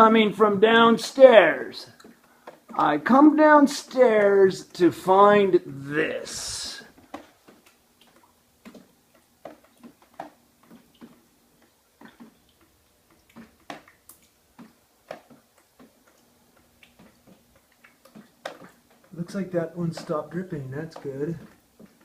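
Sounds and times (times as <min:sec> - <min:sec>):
water dripping: 0:00.0 - 0:22.0.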